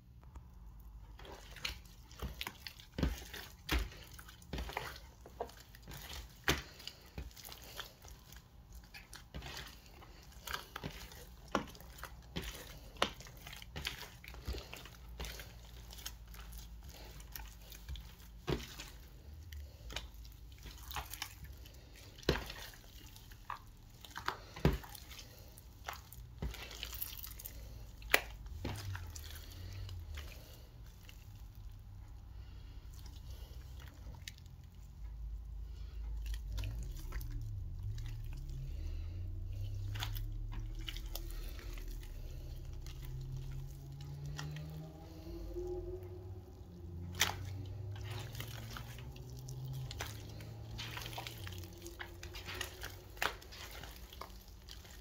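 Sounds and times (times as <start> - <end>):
slime squishing: 0.0 - 55.0.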